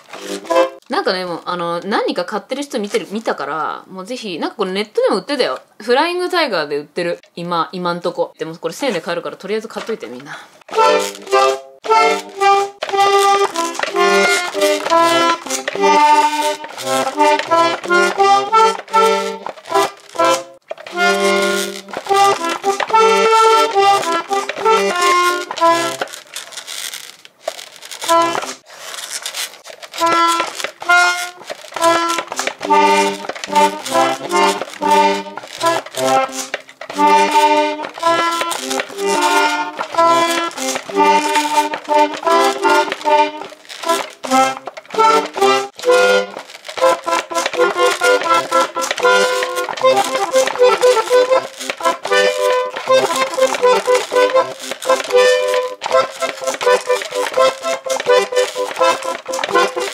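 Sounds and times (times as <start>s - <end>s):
toy accordion playing quick tune: 0.1s - 0.8s, 10.7s - 28.6s, 29.8s - 59.9s.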